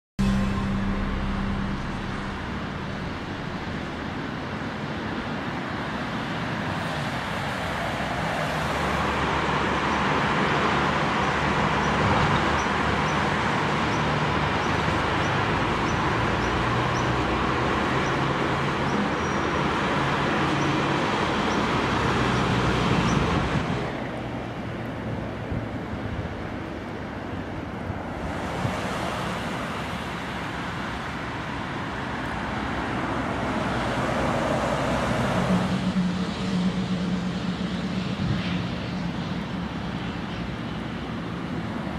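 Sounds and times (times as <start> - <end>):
road traffic noise: 0.0 - 41.9.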